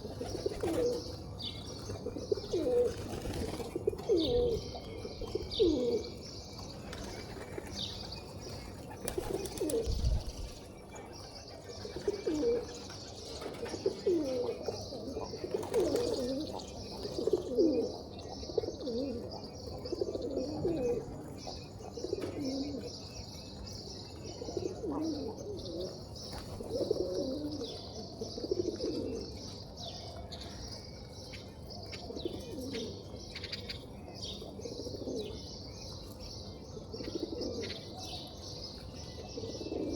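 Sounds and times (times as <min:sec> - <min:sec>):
pigeons cooing: 0:00.0 - 0:23.4, 0:24.1 - 0:30.7, 0:31.7 - 0:39.9
small birds chirping: 0:00.0 - 0:39.9.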